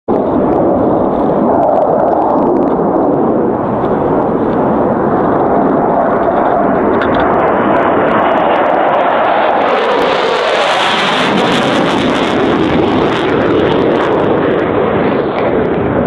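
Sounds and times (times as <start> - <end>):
jet roar of low-flying fighter: 0.1 - 16.0.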